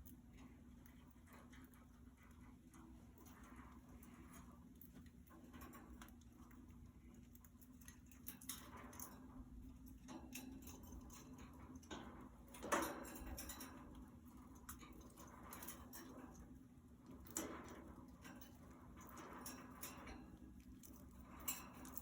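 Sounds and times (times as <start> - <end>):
claws and beaks tapping cage bars: 0.0 - 22.0
faint steady hum: 0.0 - 22.0.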